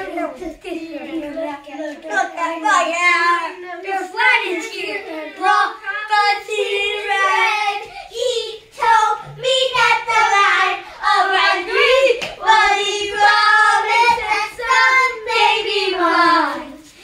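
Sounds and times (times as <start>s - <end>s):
child singing: 0.0s - 16.9s.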